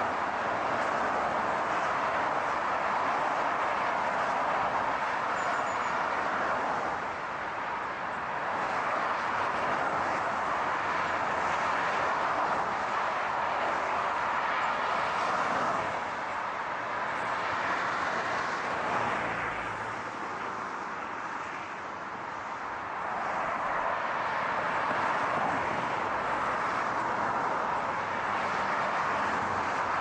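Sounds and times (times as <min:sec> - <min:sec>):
rushing car noise: 0:00.0 - 0:30.0.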